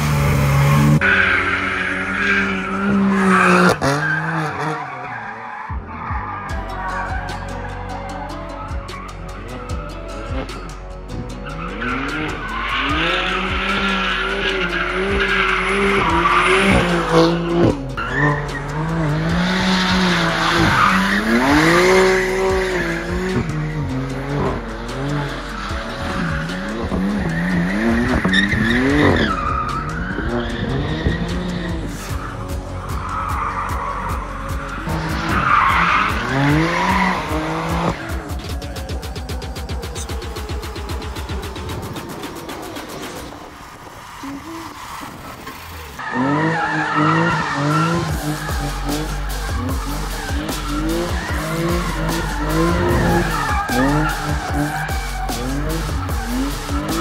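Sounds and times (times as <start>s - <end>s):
car engines revving: 0.0s - 57.0s
tires squealing on tarmac: 0.0s - 57.0s.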